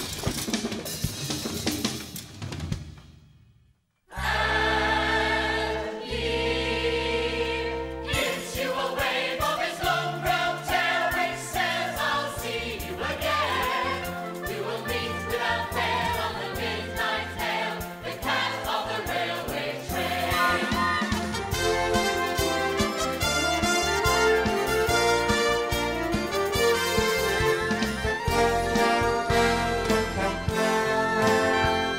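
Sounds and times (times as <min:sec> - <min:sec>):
orchestra with chorus: 0:04.1 - 0:31.9.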